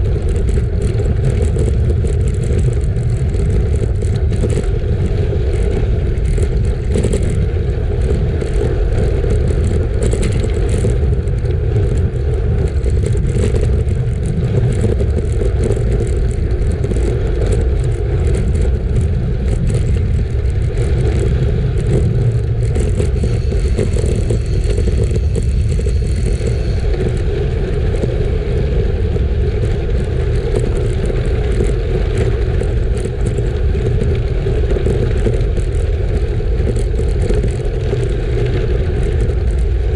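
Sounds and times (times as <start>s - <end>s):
bike clicks and rattles: 0.0s - 39.9s
bike tyres rolling over gravel: 0.0s - 39.9s
wind on microphone: 0.0s - 39.9s.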